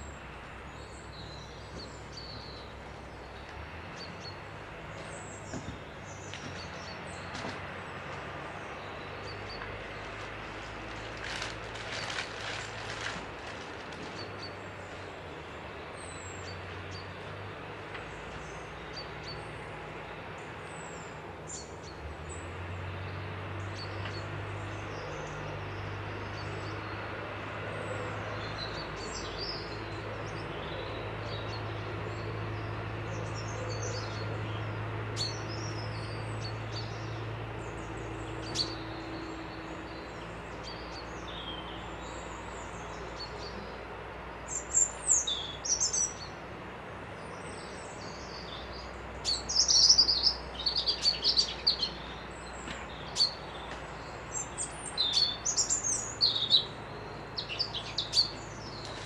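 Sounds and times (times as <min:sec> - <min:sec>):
songbirds chirping and whistling: 0:00.0 - 0:46.4, 0:47.2 - 0:59.0.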